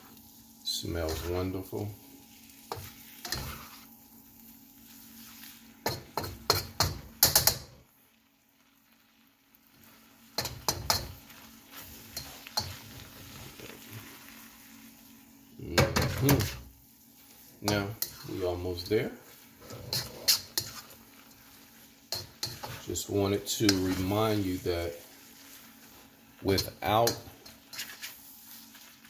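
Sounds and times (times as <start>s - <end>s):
spatula scraping a wok: 0.0s - 7.8s, 9.7s - 15.2s, 16.1s - 29.0s
faint sizzle: 0.0s - 29.0s.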